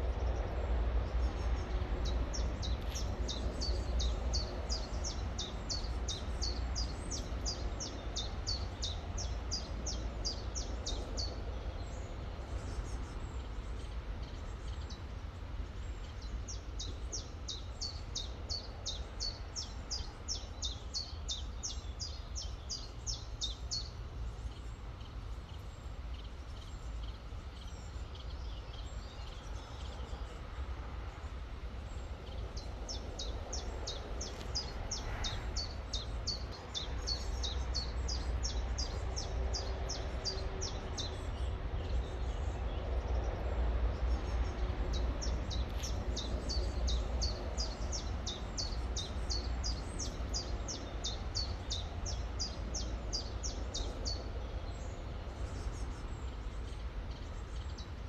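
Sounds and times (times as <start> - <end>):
songbird chirping: 0.1 - 12.8, 15.8 - 58.0.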